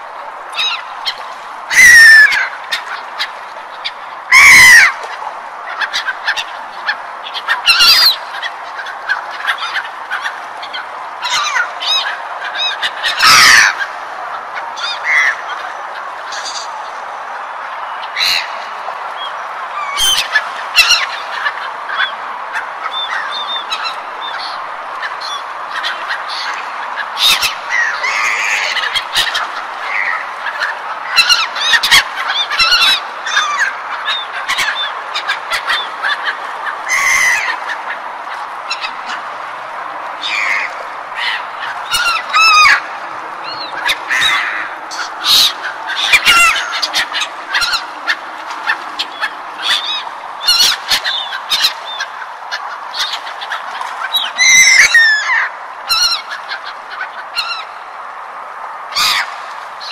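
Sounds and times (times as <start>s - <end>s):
gulls calling: 0.0s - 59.9s
steady background noise: 0.0s - 59.9s.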